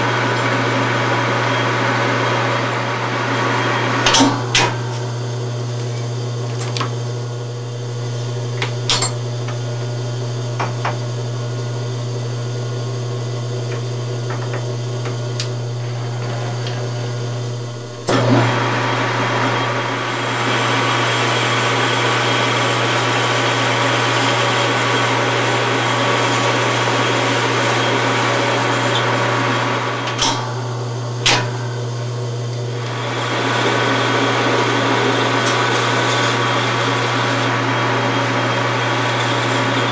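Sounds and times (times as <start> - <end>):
hissing metal cutting noise: 0.0 - 39.9
lathe motor hum: 0.0 - 39.9.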